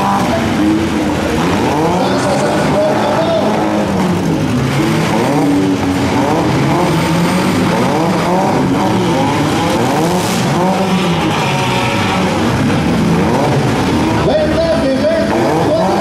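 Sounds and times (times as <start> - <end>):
car engines revving: 0.0 - 16.0
cars ramming: 0.0 - 16.0.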